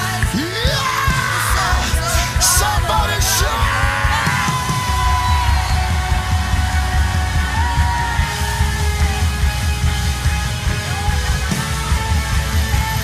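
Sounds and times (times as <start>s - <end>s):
live worship band music: 0.0s - 13.0s.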